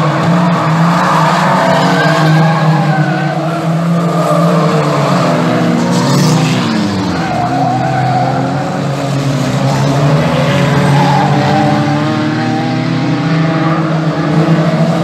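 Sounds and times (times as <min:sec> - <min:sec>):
racing car engines revving: 0:00.0 - 0:15.0
tyres skidding: 0:00.0 - 0:15.0.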